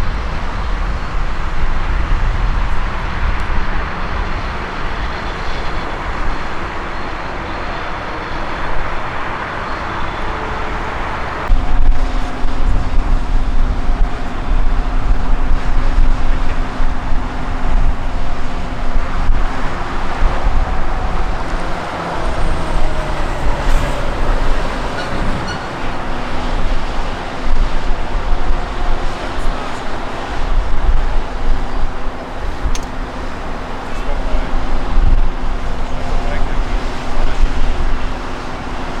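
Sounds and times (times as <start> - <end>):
idling machinery: 0.0 - 39.0
jet engines rumbling and whining: 0.0 - 39.0
traffic noise: 0.0 - 39.0.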